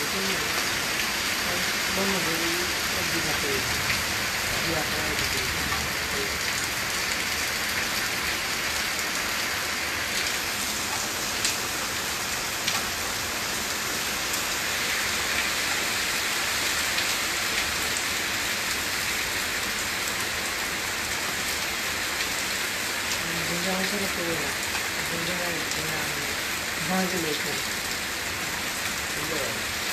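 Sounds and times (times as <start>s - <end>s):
heavy rain on paving: 0.0s - 29.9s.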